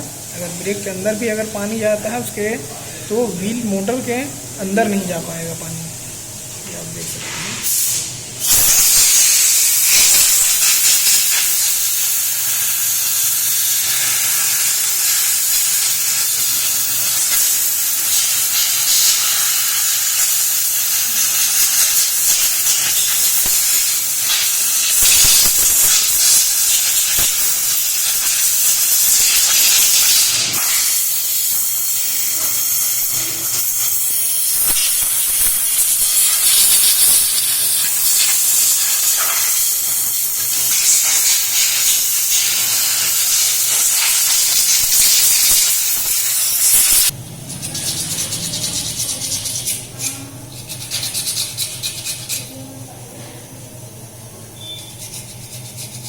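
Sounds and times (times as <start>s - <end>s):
compressed air hissing jet: 7.1s - 52.5s.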